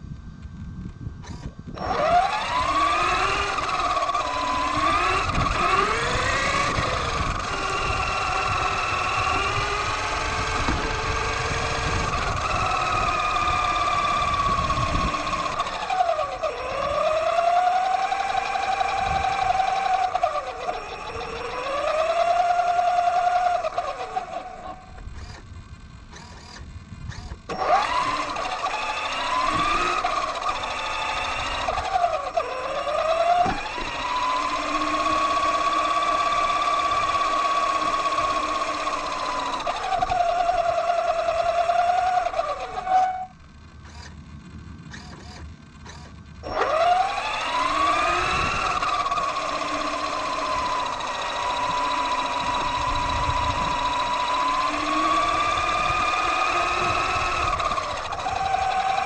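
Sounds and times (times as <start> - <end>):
electric motor whining: 0.0 - 59.0.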